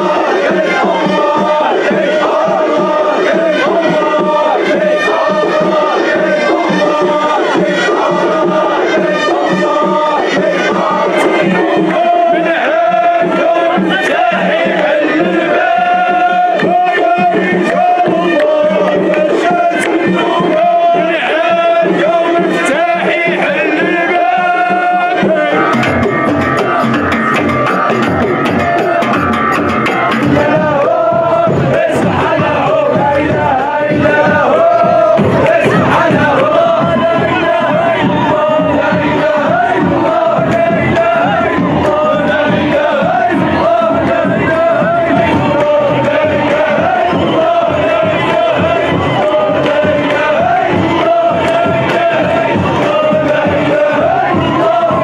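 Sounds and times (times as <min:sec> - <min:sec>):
crowd: 0:00.0 - 0:55.0
frame drums and hand drums: 0:00.0 - 0:55.0
group chanting: 0:00.0 - 0:55.0
procession music: 0:00.0 - 0:55.0.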